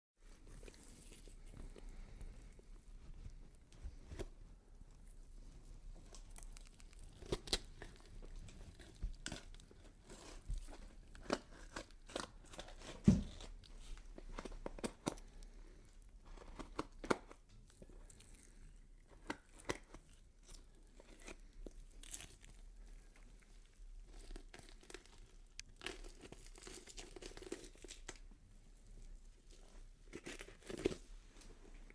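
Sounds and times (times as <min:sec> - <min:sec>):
tearing and crunching: 0:00.3 - 0:03.3, 0:05.9 - 0:15.5, 0:16.3 - 0:28.3, 0:29.5 - 0:31.1.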